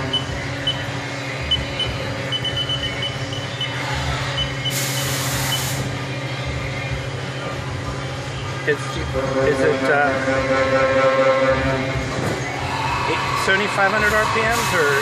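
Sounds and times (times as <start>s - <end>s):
milling machine hum: 0.0s - 15.0s.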